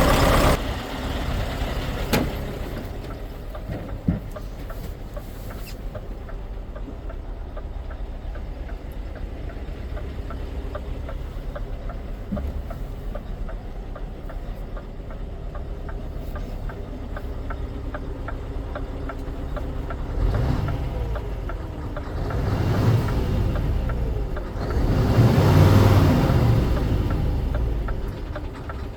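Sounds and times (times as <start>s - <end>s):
diesel truck engine idling and revving: 0.0s - 28.9s
light ticking: 2.9s - 28.9s.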